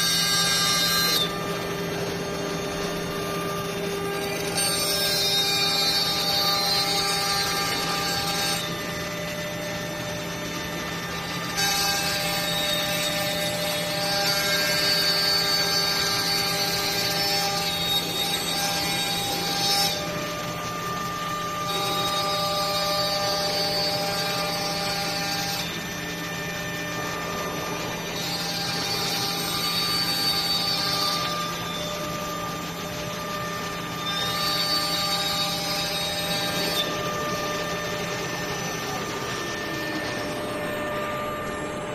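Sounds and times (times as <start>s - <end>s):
router spindle whining: 0.0s - 41.9s.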